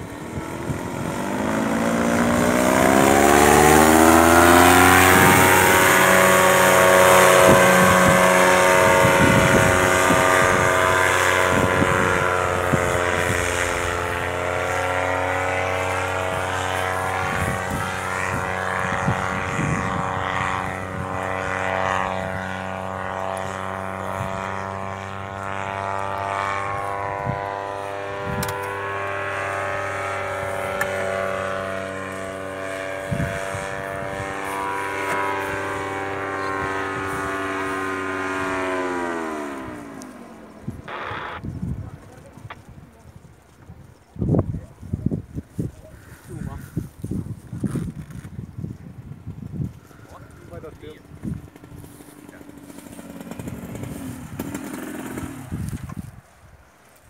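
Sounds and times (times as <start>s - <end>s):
paramotor engine buzzing overhead: 0.0s - 57.0s.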